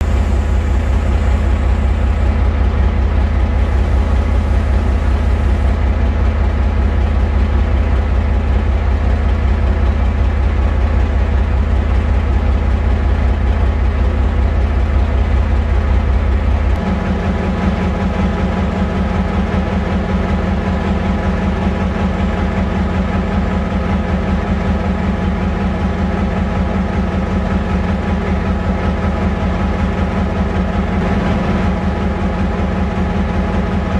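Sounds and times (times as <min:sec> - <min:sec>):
locomotive engine rumbling: 0:00.0 - 0:33.9.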